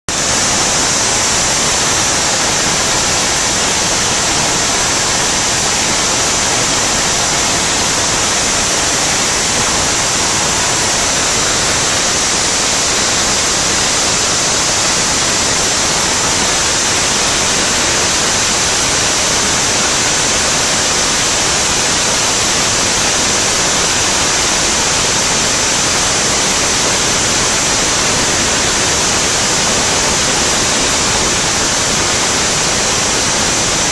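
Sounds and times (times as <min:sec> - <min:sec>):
aircraft engine and slipstream rush: 0:00.1 - 0:33.9.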